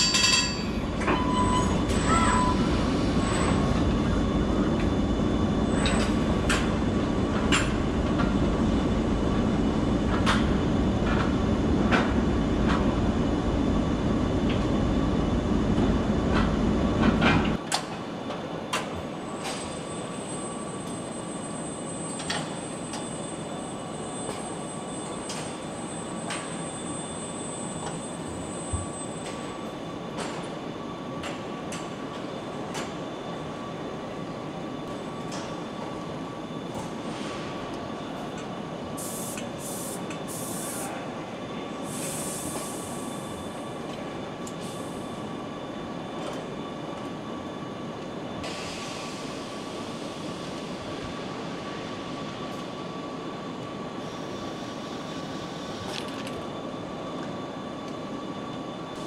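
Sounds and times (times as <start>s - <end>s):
machinery hum with whine: 0.0s - 59.0s.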